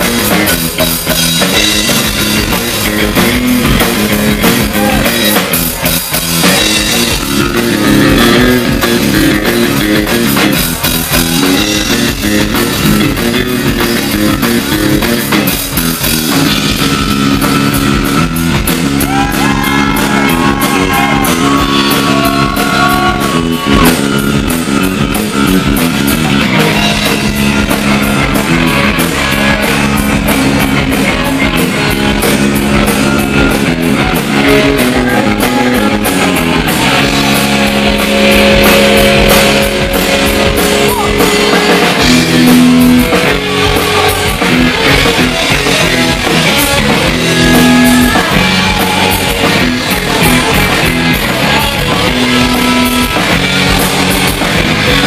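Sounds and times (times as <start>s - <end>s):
drum kit steady beat: 0.0s - 55.0s
electric bass: 0.0s - 55.0s
electric guitar: 0.0s - 55.0s.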